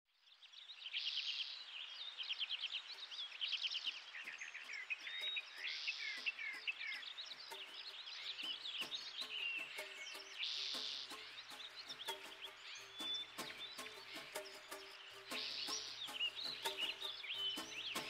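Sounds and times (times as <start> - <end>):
songbirds chirping: 0.1 - 18.0.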